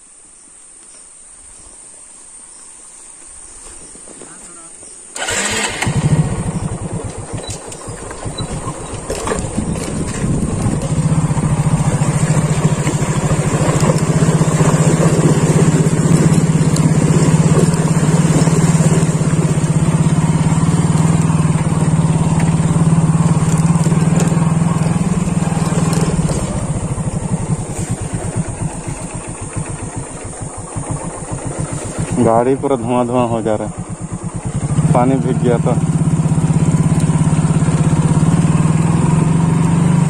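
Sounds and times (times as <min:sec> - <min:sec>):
motorcycle engine running: 0:05.2 - 0:40.0.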